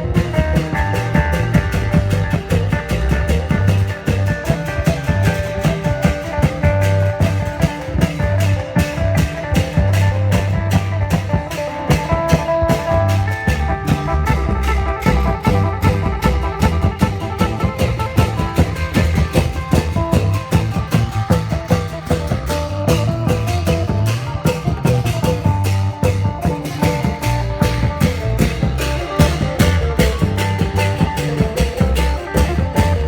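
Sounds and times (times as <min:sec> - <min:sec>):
drum band procession music: 0:00.0 - 0:33.0.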